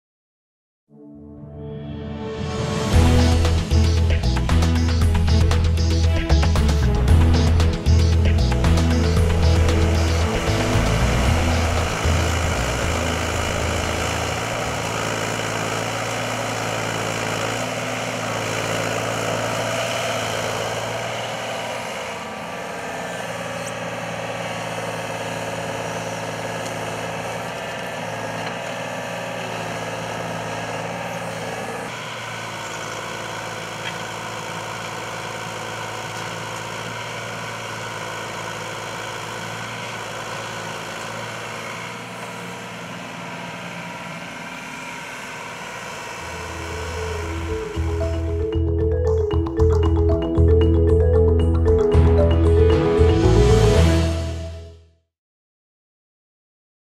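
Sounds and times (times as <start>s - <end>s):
excavator diesel engine running: 2.4s - 54.5s.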